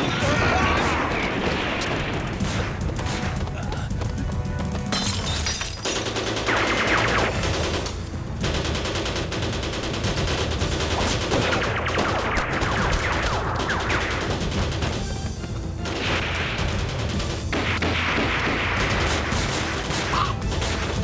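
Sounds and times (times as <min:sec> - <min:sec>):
rapid gunfire: 0:00.0 - 0:03.6, 0:05.8 - 0:21.0
dramatic film score: 0:00.0 - 0:21.0.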